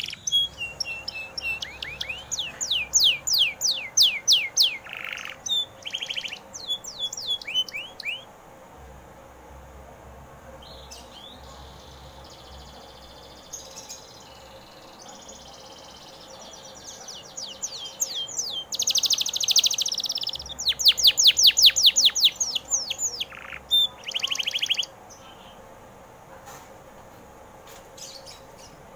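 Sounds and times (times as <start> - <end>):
canary singing: 0.0 - 8.4, 10.6 - 25.7.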